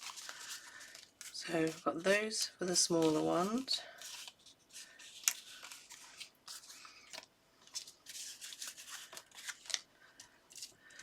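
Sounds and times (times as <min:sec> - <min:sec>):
paper rustling and scraping: 0:00.0 - 0:11.0.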